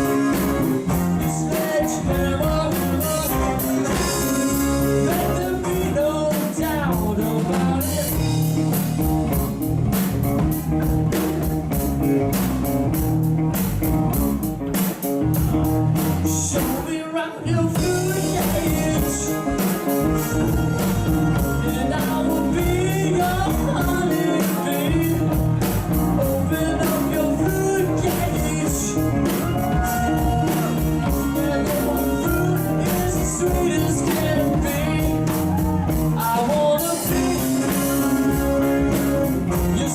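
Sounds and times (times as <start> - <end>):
person singing: 0.0 - 8.9, 15.3 - 39.9
live blues-rock band: 0.0 - 39.9.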